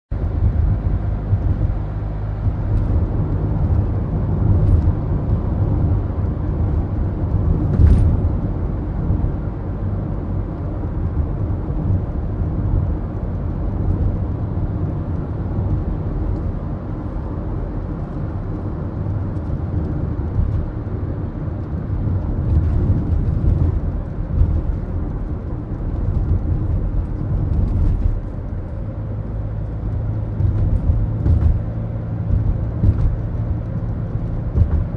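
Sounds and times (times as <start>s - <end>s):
car engine and road rumble: 0.1s - 34.9s.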